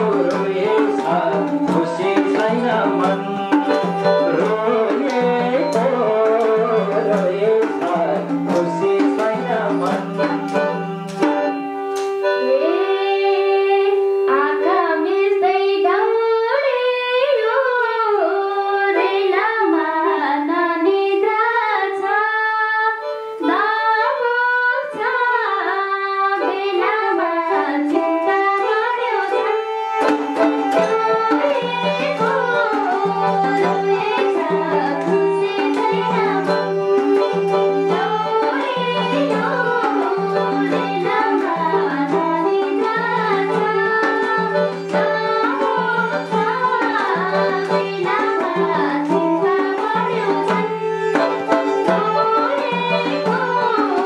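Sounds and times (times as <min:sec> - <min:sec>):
hand drum: 0:00.0 - 0:15.8, 0:26.4 - 0:54.0
bowed sarangi: 0:00.0 - 0:54.0
keyboard: 0:00.0 - 0:54.0
woman singing: 0:00.0 - 0:54.0.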